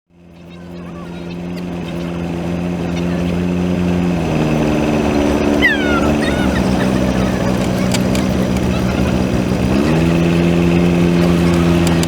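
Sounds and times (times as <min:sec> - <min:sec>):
airplane engine and propeller: 0:00.1 - 0:12.0.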